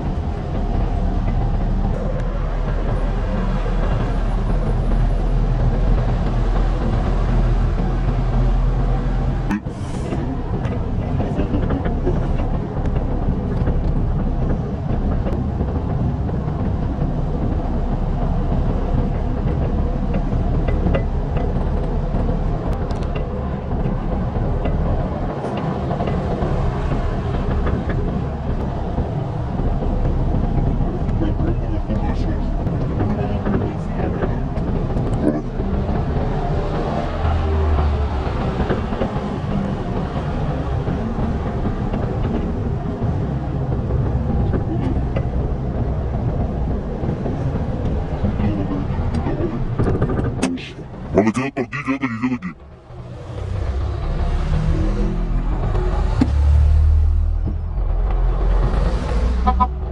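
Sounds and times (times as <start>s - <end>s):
car engines rumbling: 0.0s - 59.9s.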